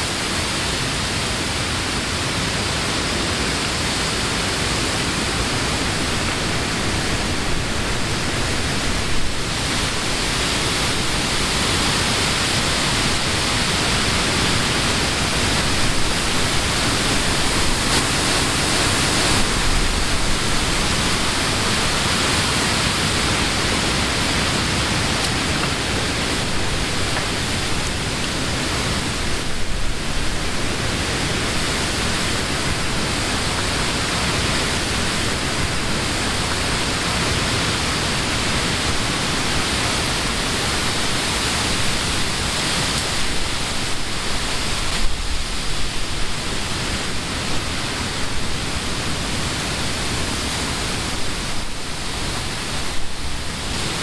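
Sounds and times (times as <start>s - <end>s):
wind rustling leaves: 0.0s - 54.0s.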